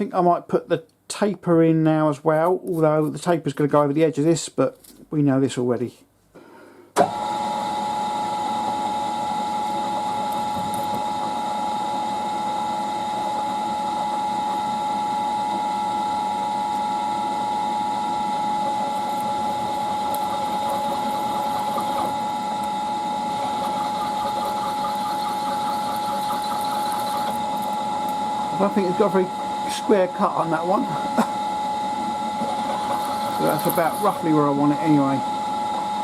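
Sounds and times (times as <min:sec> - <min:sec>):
milling machine motor whine: 0:07.0 - 0:36.0.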